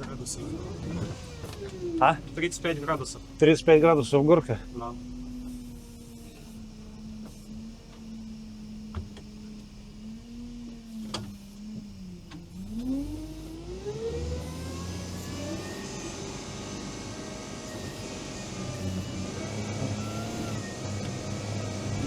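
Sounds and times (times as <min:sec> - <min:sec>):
all-terrain vehicle engine: 0:00.0 - 0:22.0.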